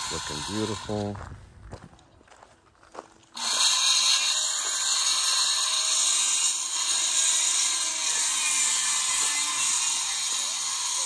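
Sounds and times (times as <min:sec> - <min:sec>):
power saw cutting: 0:00.0 - 0:01.2, 0:03.3 - 0:11.0.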